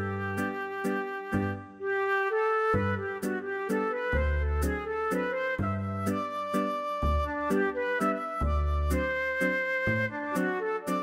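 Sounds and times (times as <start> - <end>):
accordion waltz: 0.0 - 11.0.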